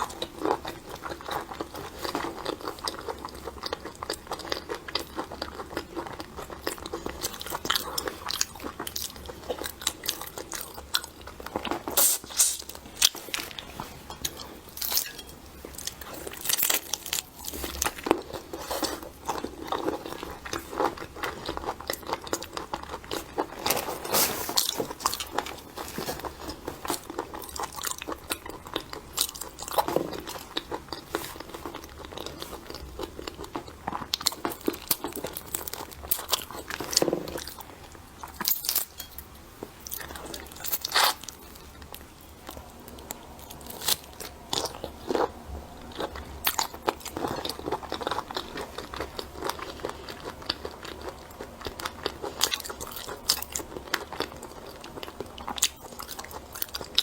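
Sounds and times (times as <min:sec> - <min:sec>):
crunching and chewing food: 0:00.0 - 0:57.0.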